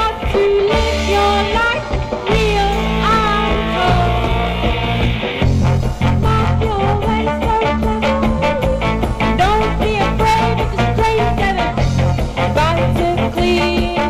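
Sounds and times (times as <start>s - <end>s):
live band playing: 0.0s - 14.0s
steady drum beat: 0.0s - 14.0s.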